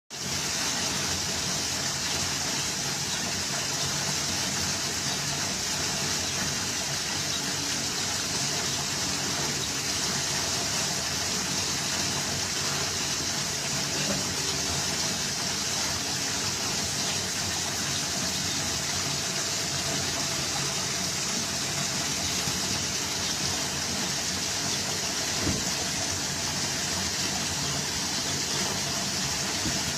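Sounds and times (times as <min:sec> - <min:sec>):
water falling and splashing: 0:00.1 - 0:29.9.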